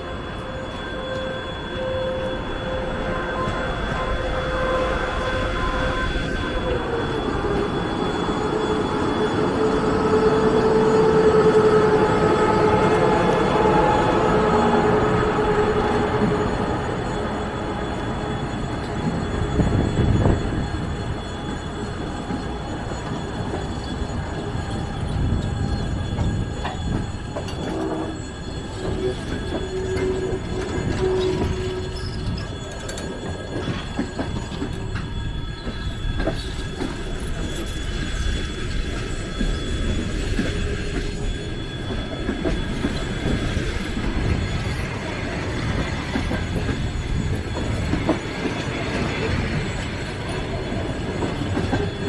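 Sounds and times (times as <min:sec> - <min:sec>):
electric locomotive whine: 0:00.0 - 0:52.0
train wheels rumbling on rails: 0:00.0 - 0:52.0.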